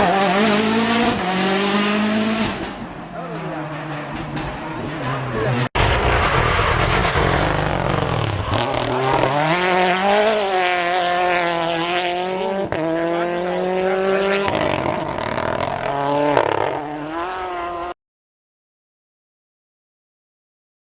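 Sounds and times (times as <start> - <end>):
car engine at full throttle: 0.0 - 17.9.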